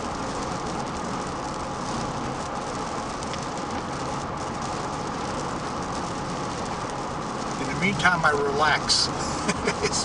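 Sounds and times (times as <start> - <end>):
road noise inside car: 0.0 - 10.0.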